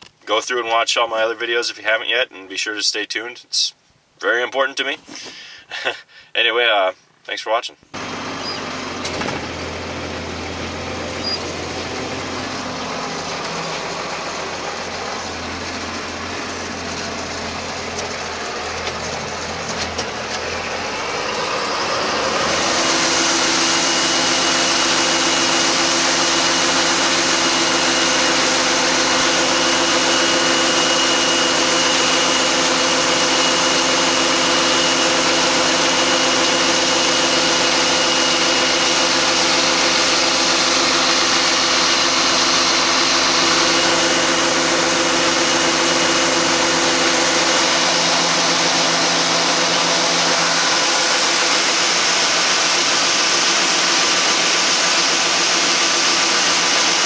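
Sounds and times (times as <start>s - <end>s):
combine engine drone: 7.9s - 57.0s.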